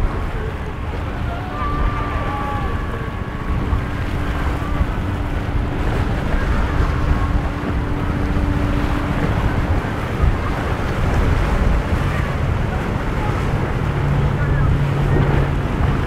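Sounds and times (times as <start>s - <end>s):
boat engines running: 0.0s - 16.0s
steady hum: 0.0s - 16.0s
waves breaking: 0.0s - 16.0s
wind buffeting microphone: 0.0s - 16.0s.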